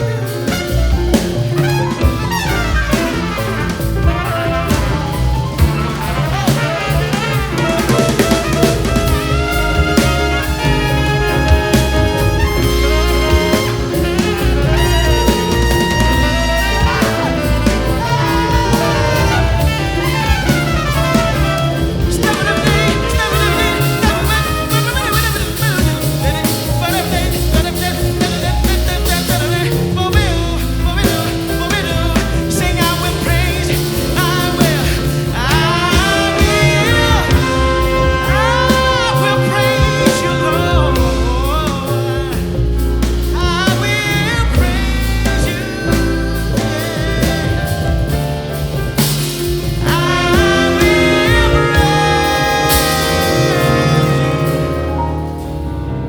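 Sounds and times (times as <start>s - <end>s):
double bass: 0.0s - 56.0s
drum kit: 0.0s - 56.0s
piano: 0.0s - 56.0s
sliding melodic line: 0.0s - 56.0s.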